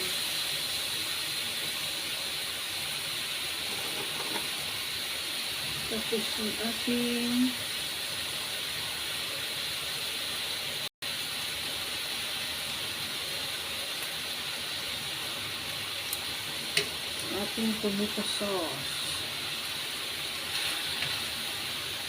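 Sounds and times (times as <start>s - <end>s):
food sizzling in a frying pan: 0.0s - 22.0s.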